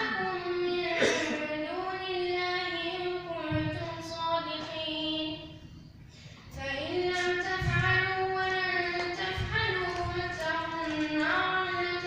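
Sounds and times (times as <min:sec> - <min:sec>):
boy chanting recitation: 0:00.0 - 0:05.7, 0:06.4 - 0:12.0.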